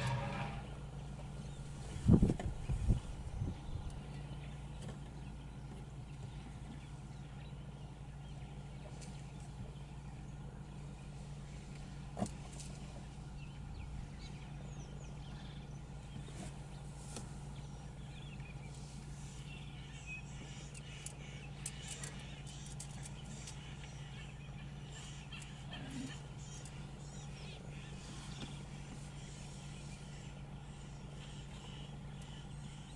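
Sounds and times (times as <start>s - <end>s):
birds chirping: 0.0s - 32.9s
steady low hum: 0.0s - 32.9s.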